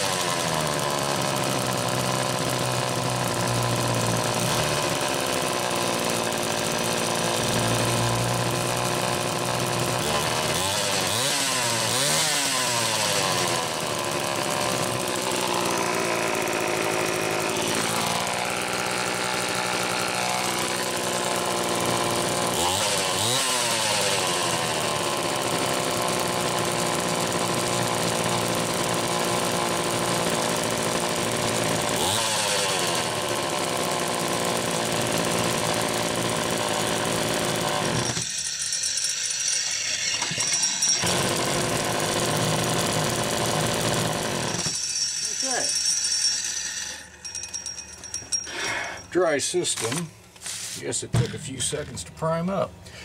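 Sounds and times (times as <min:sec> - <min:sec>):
chainsaw engine revving and idling: 0:00.0 - 0:47.2.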